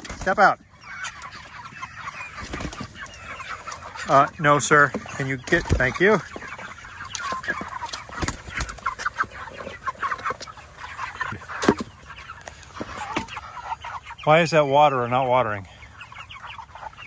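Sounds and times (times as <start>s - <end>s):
chickens chirping: 0.0s - 17.0s.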